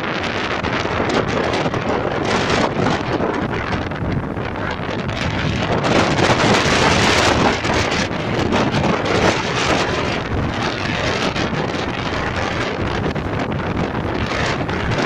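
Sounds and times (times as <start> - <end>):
gusting wind on microphone: 0.0 - 15.0.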